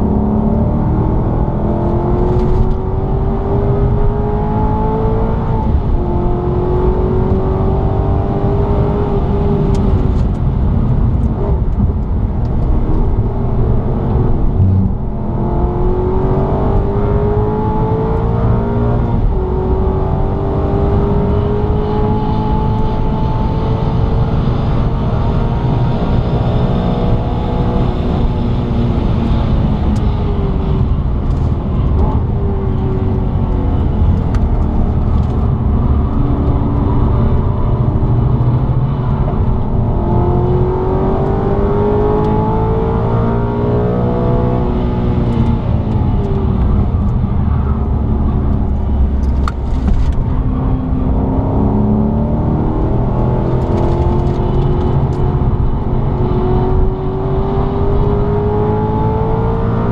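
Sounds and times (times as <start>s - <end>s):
car engine accelerating hard: 0.0s - 59.9s.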